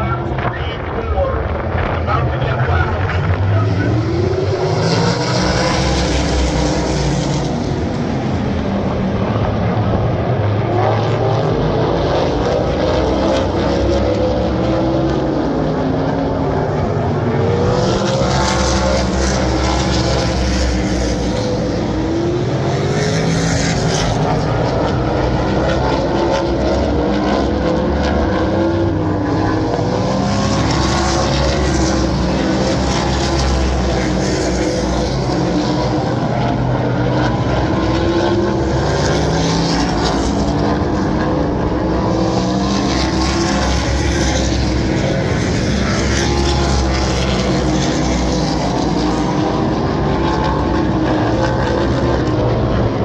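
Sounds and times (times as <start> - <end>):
racing car engines at full throttle: 0.0 - 53.0.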